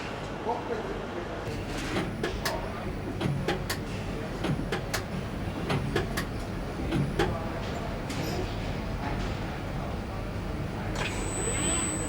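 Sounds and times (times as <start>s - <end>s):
machinery hum: 1.5s - 12.0s.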